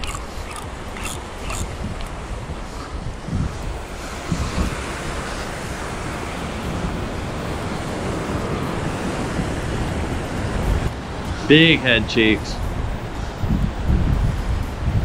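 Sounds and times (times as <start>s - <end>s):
ocean surf against rocks: 0.0s - 15.0s
wind buffeting microphone: 0.0s - 15.0s.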